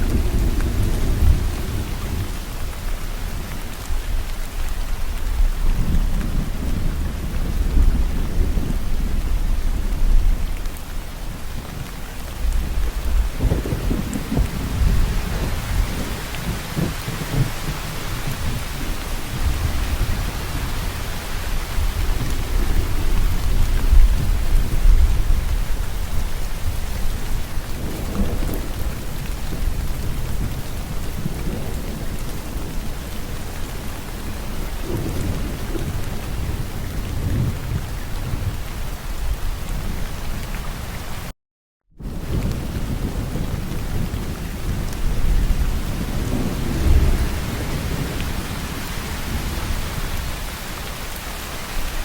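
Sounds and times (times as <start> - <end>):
low thunder rumbling: 0.0 - 40.6, 42.0 - 52.0
steady rain falling: 0.0 - 41.3, 42.0 - 52.0.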